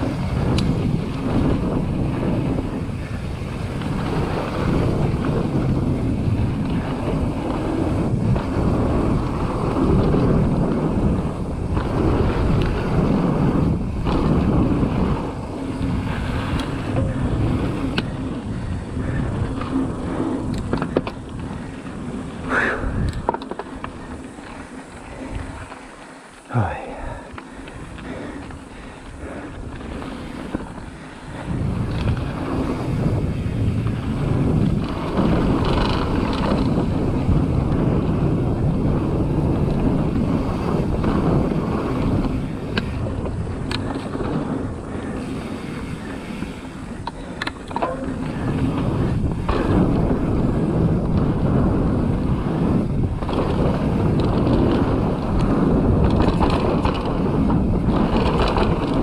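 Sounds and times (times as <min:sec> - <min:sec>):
bike clicks and knocks: 0:00.0 - 0:59.0
bike tyres rolling on gravel: 0:00.0 - 0:59.0
wind on microphone: 0:00.0 - 0:59.0.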